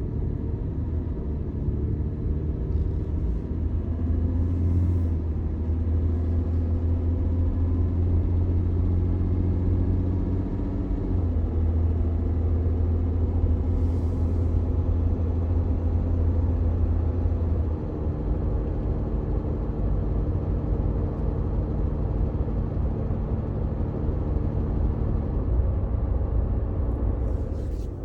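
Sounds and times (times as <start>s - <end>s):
car engine low drone: 0.0s - 28.0s.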